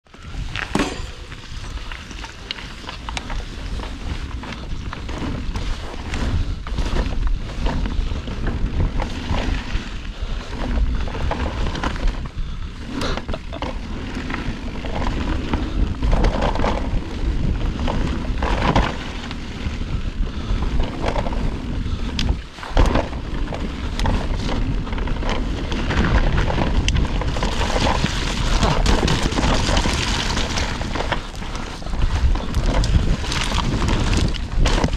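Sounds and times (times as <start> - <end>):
wind noise on microphone: 0.0 - 34.9
bike knocking and rattling: 0.1 - 34.9
tyres on dirt: 0.1 - 34.9.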